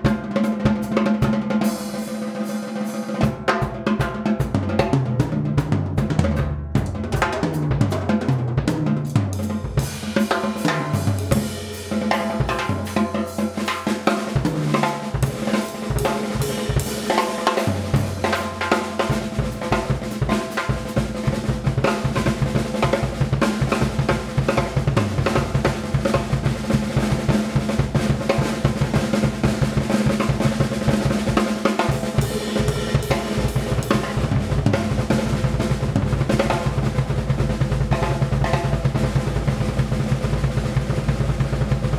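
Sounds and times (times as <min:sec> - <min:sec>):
drum kit solo: 0:00.0 - 0:41.9.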